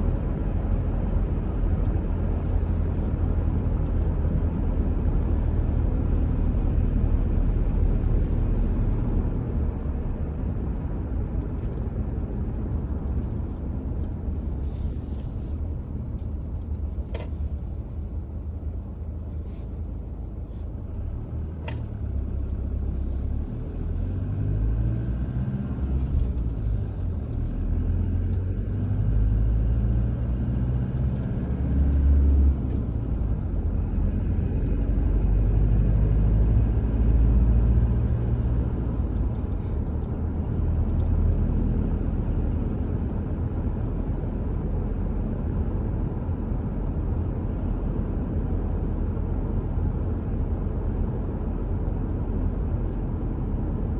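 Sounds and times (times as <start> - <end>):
car driving rumble: 0.0 - 53.9.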